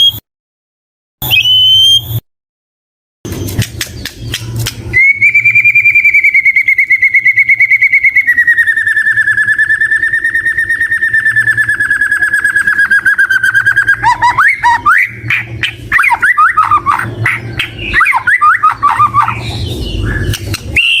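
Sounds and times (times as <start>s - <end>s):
songbird rapid trill: 3.5s - 21.0s.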